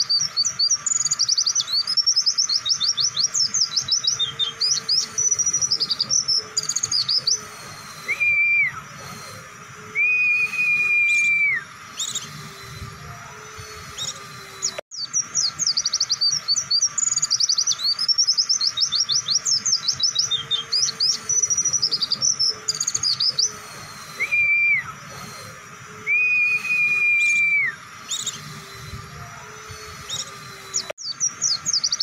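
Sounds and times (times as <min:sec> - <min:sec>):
bird twittering chirps: 0:00.0 - 0:32.0
bird whistles: 0:00.0 - 0:32.0.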